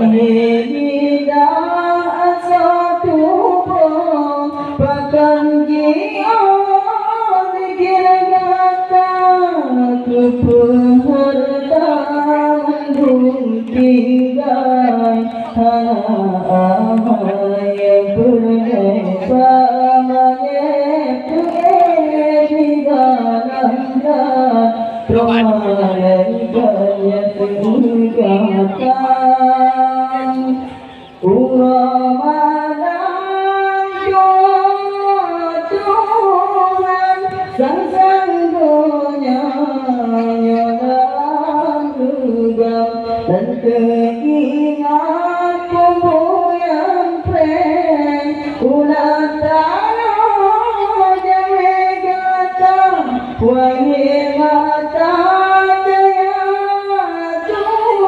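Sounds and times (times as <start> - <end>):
man singing through microphone: 0.0 - 58.0.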